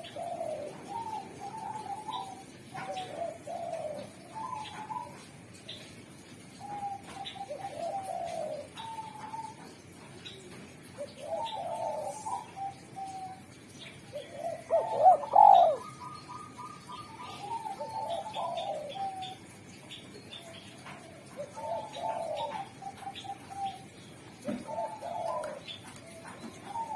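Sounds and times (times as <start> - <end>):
dove cooing: 0.0 - 5.6, 6.4 - 19.7, 20.3 - 26.9.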